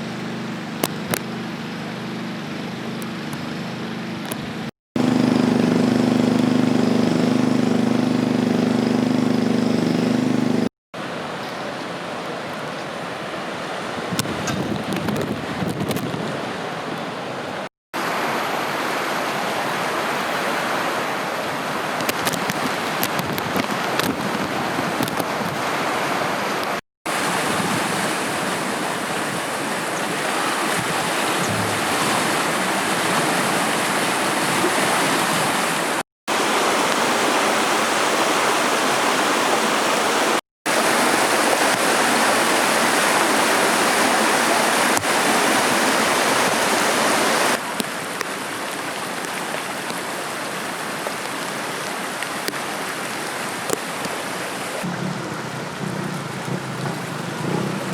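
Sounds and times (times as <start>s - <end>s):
floodwater rushing: 0.0s - 57.9s.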